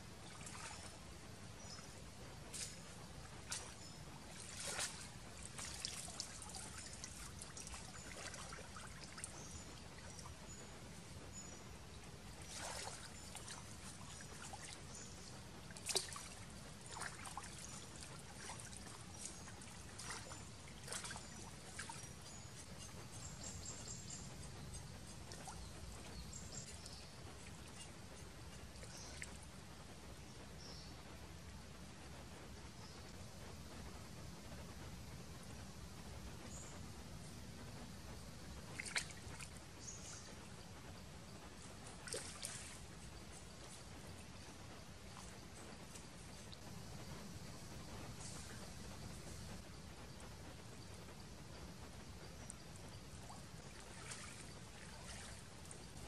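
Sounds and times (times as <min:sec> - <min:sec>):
water splashing and sloshing: 0:00.0 - 0:30.4, 0:36.4 - 0:56.0.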